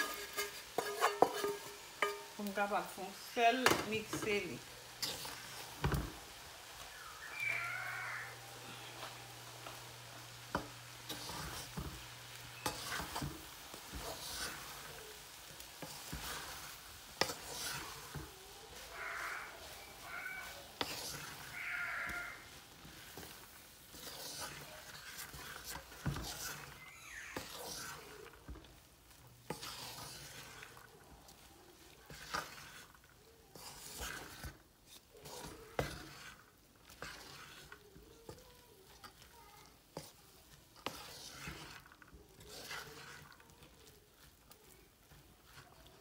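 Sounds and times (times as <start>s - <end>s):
spatula scraping a metal pot: 0.0s - 6.1s, 10.5s - 46.0s.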